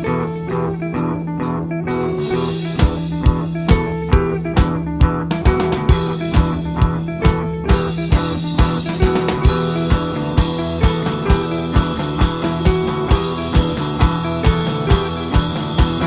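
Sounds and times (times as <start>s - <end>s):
bass guitar: 0.0s - 16.0s
guitar: 0.0s - 16.0s
steady drum beat: 0.0s - 16.0s.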